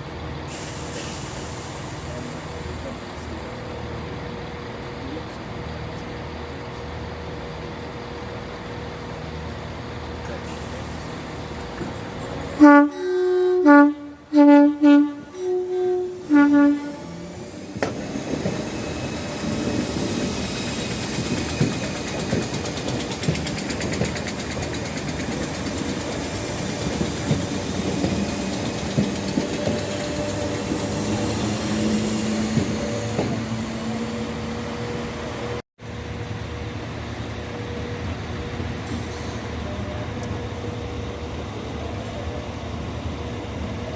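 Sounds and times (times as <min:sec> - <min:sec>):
train engine and rail noise: 0:00.0 - 0:43.9.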